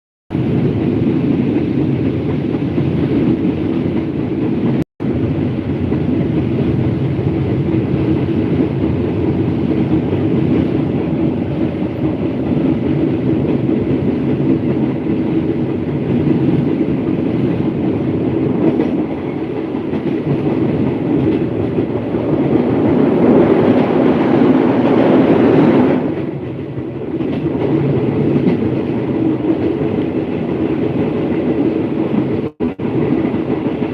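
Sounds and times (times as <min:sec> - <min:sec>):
train rumbling along track: 0:00.3 - 0:33.9.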